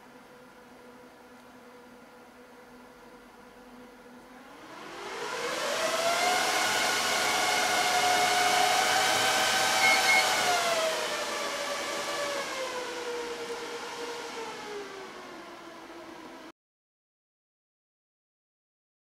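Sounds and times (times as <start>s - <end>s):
server cooling fans whining: 0.0s - 16.5s.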